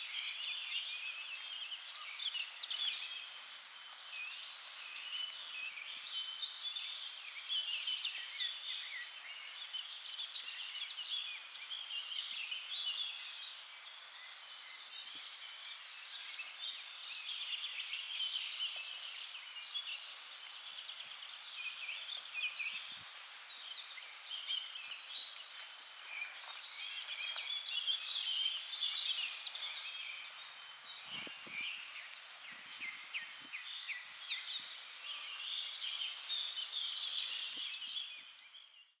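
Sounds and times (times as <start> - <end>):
small birds chirping and singing: 0.0 - 39.0.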